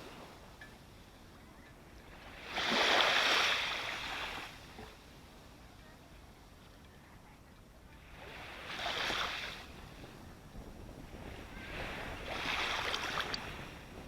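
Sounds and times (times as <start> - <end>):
ocean waves washing ashore: 0.0 - 14.0.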